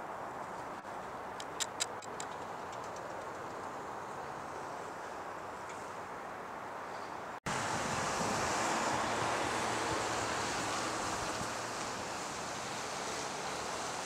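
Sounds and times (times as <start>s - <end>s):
outdoor rushing wind noise: 0.0s - 14.0s.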